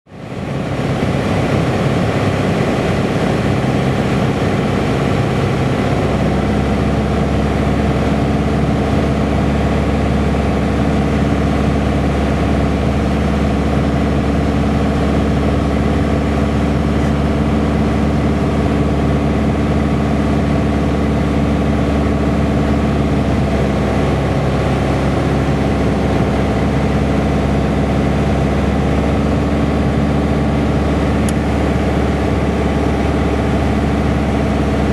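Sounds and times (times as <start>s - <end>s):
aircraft piston engine drone: 0.1s - 34.9s.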